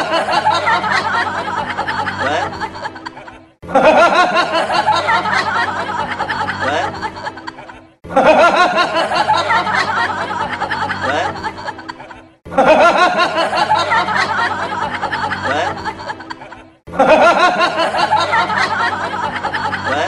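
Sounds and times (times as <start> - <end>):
background music: 0.0 - 20.0
people laughing: 0.0 - 20.0.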